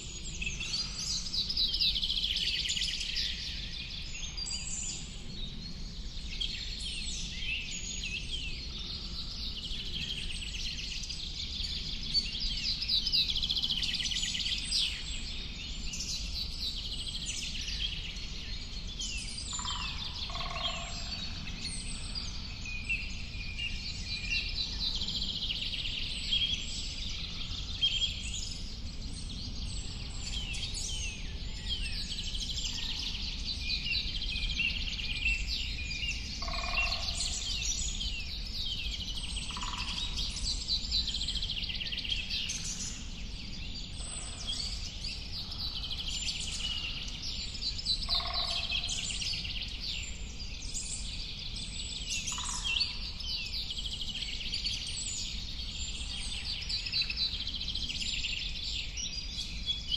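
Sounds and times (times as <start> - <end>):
low background noise: 0.0 - 59.9
birds chirping and singing: 0.1 - 59.9.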